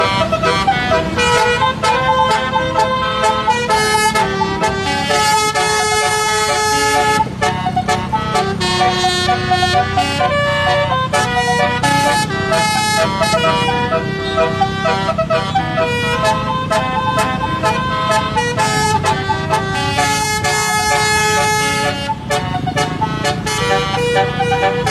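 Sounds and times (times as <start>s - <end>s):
multi-trumpet car horn melody: 0.0s - 24.9s.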